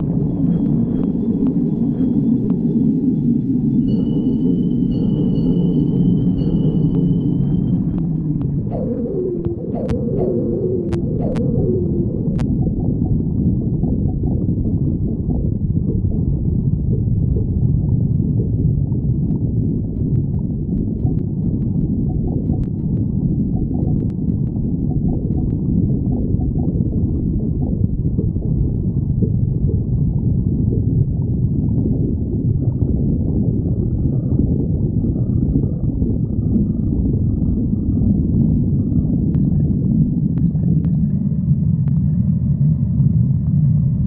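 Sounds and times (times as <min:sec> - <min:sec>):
stomach growling: 0:06.4 - 0:44.0.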